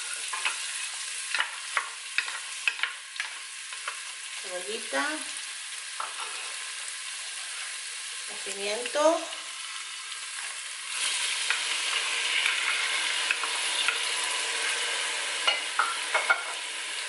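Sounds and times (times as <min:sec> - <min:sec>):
onion sizzling in oil: 0:00.0 - 0:17.0.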